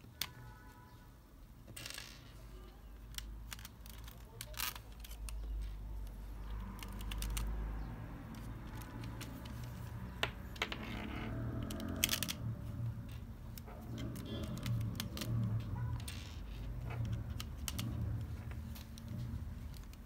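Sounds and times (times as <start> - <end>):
plastic parts clicking and rattling: 1.6 - 20.0.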